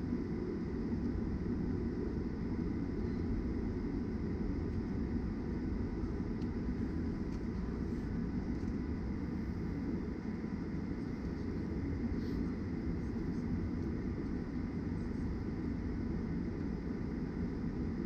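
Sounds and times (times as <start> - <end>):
airplane cabin rumble: 0.0 - 18.0
faint engine whine: 0.0 - 18.0.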